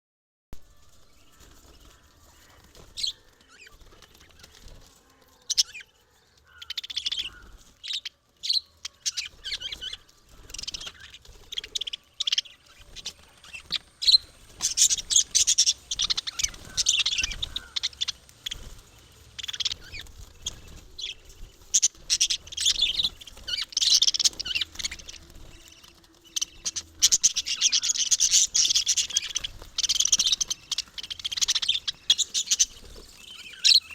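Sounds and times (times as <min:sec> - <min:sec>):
parrots chirping: 0:06.4 - 0:33.9.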